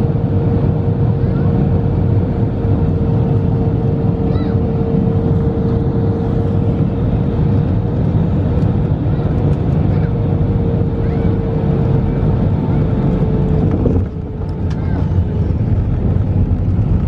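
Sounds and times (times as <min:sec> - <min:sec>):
airplane cabin engine rumble: 0:00.0 - 0:17.0
constant hum: 0:00.0 - 0:17.0.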